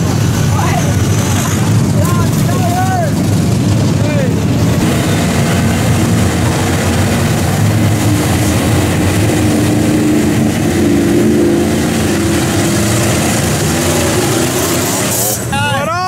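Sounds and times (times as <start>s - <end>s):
mud and water spraying: 0.0s - 15.6s
truck engine running under load: 0.0s - 16.0s.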